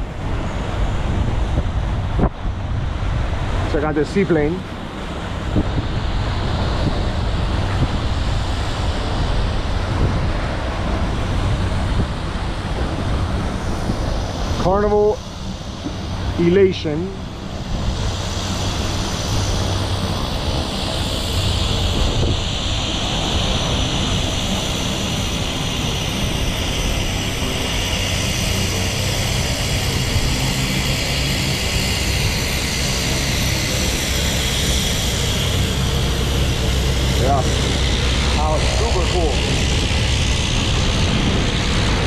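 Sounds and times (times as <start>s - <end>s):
boat engine: 0.0s - 42.0s
propeller engine whining: 0.0s - 42.0s
wind: 0.0s - 42.0s.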